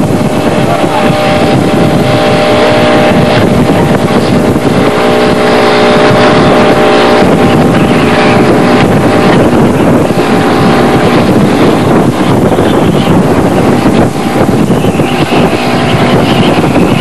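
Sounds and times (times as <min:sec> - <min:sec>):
boat motor running: 0:00.0 - 0:17.0
wind buffeting microphone: 0:00.0 - 0:17.0.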